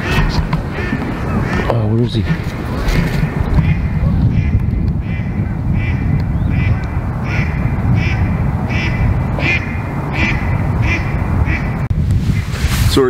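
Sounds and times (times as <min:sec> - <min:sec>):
bird calling: 0:00.0 - 0:11.9
wind rumble on microphone: 0:00.0 - 0:13.0.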